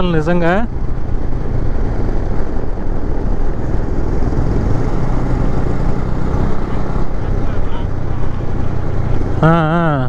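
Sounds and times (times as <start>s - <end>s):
motorcycle engine running: 0.0s - 10.0s
road noise: 0.0s - 10.0s
rushing wind: 0.0s - 10.0s.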